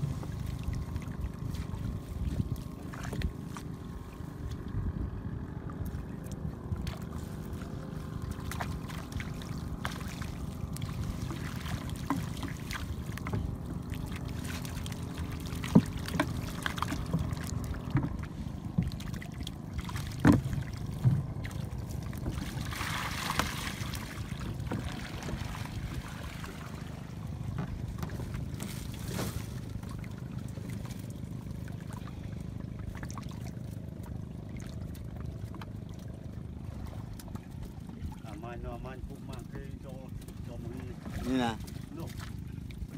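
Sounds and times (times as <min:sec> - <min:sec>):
steady low rumble: 0:00.0 - 0:42.9
water trickling and splashing: 0:00.0 - 0:42.9.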